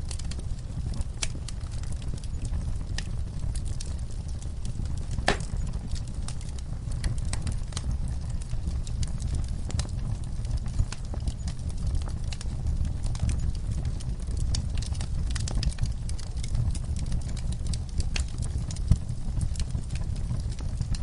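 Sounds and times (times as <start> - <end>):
sharp pops from burning logs: 0.0 - 21.0
wood fire crackling: 0.0 - 21.0.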